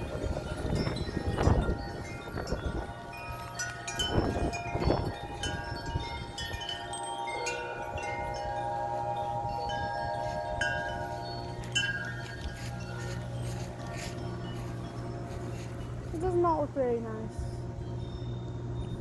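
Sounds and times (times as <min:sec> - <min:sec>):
metal wind chimes ringing: 0:00.0 - 0:19.0
wind buffeting microphone: 0:00.0 - 0:19.0.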